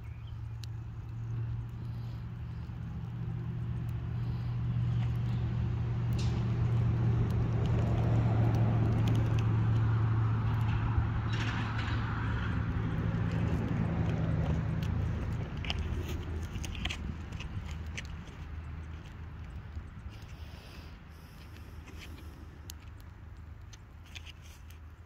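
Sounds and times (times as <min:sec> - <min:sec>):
fire crackling and popping: 0:00.0 - 0:25.0
fire flames rushing: 0:00.5 - 0:24.0.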